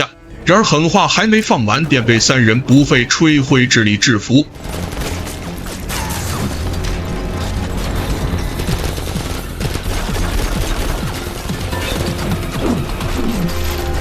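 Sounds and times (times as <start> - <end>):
film music score: 0.0 - 14.0
rapid automatic gunfire: 1.4 - 13.8.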